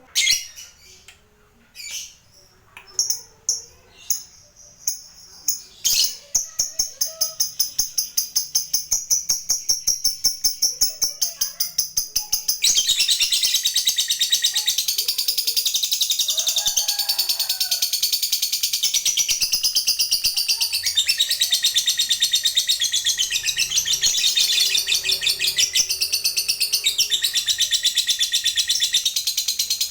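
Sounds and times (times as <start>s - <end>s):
lovebird chirping and chattering: 0.0s - 1.1s, 1.8s - 29.9s.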